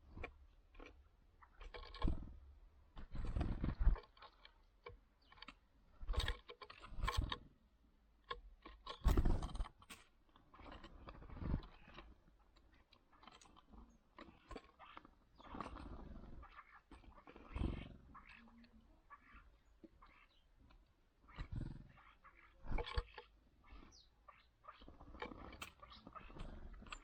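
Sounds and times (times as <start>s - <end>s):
birds pecking seed: 0.0s - 27.0s
wing flutters: 1.6s - 2.4s, 3.0s - 7.5s, 8.8s - 27.0s.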